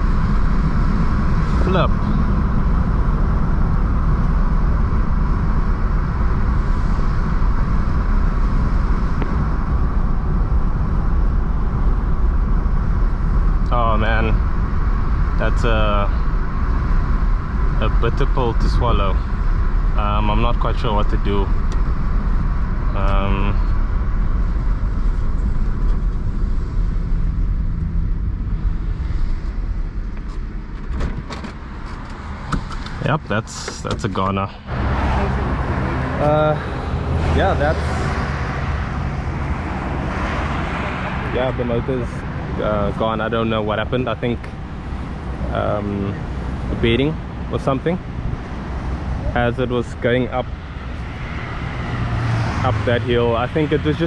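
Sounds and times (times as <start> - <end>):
steady low rumbling: 0.0 - 54.0.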